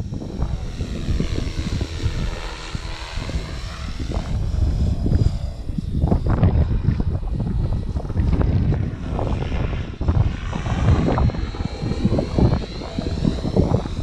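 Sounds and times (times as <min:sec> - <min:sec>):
model aircraft motor whining: 0:00.0 - 0:14.0
wind buffeting microphone: 0:00.0 - 0:14.0.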